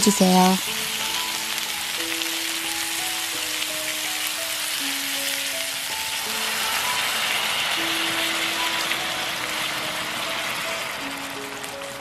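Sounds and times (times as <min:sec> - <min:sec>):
background music: 0:00.0 - 0:12.0
vegetables sizzling in a pan: 0:00.0 - 0:12.0.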